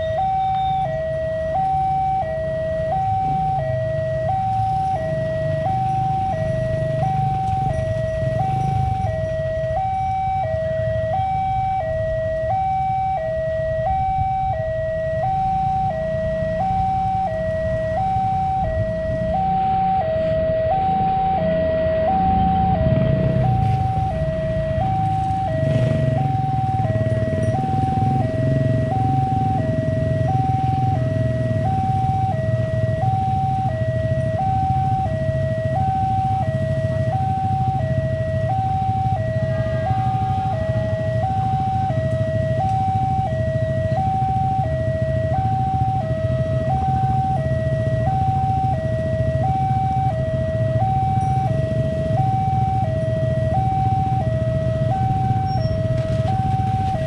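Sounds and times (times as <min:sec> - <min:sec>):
level crossing two-tone alarm: 0:00.0 - 0:57.0.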